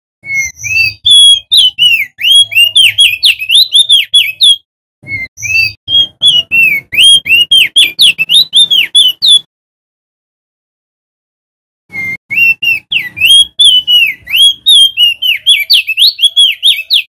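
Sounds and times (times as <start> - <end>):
bird singing whistled notes: 0.2 - 9.5, 11.9 - 17.0.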